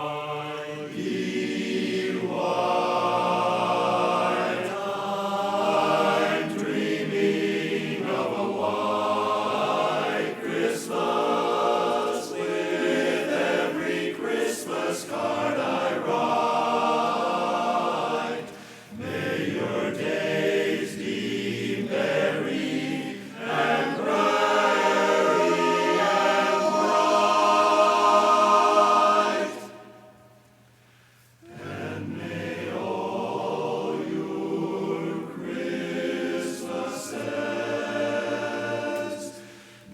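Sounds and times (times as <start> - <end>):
a cappella chorus singing: 0.0 - 30.4, 31.4 - 39.9.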